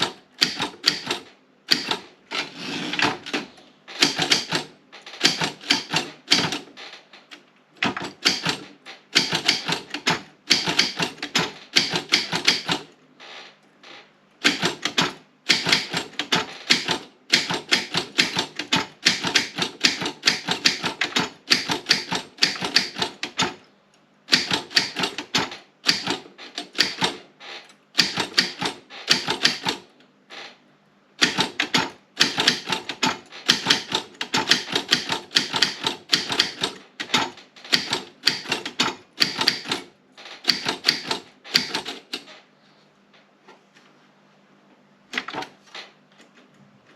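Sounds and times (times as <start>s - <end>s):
manual typewriter typing: 0.0s - 13.0s, 13.9s - 23.6s, 24.3s - 27.2s, 28.0s - 29.9s, 31.2s - 42.4s.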